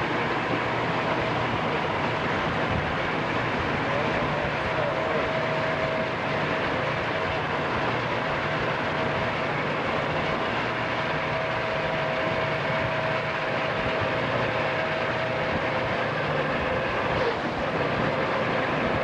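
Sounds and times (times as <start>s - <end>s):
diesel locomotives running: 0.0s - 19.0s
steady whine: 0.0s - 19.0s.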